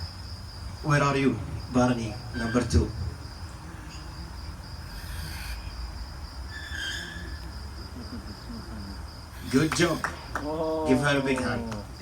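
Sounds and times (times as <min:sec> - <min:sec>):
recorded cricket trill: 0:00.0 - 0:12.0.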